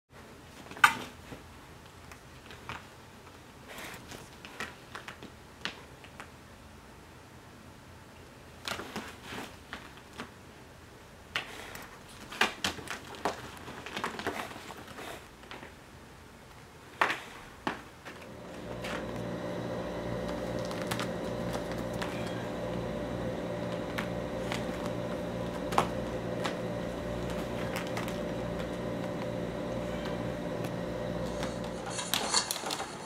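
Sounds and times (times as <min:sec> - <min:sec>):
steady mechanical hum: 0:00.2 - 0:33.0.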